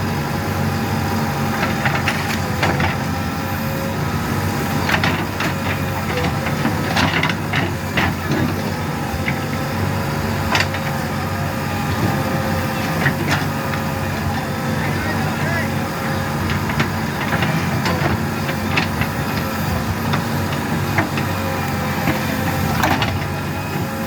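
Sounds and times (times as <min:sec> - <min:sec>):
backhoe diesel engine running: 0:00.0 - 0:24.0.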